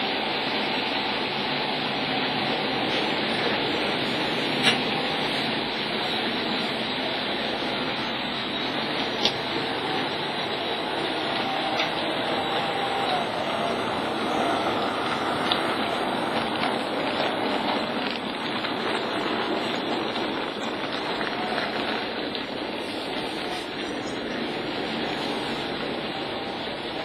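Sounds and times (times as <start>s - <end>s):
model trains rumbling on track: 0.0s - 27.0s
motor whine: 1.9s - 27.0s.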